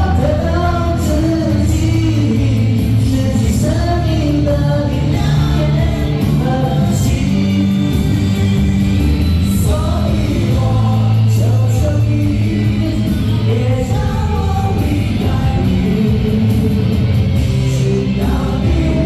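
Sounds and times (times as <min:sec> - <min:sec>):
live band playing: 0:00.0 - 0:19.0
person singing: 0:00.0 - 0:19.0.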